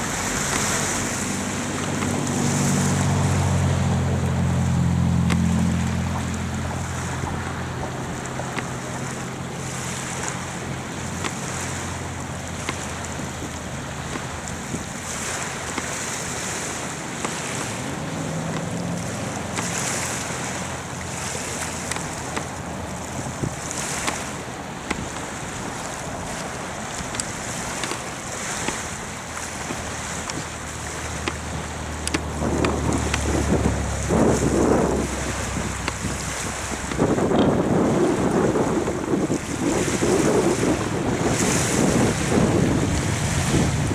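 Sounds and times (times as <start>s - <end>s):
distant rocket engine roar: 0.0s - 43.9s.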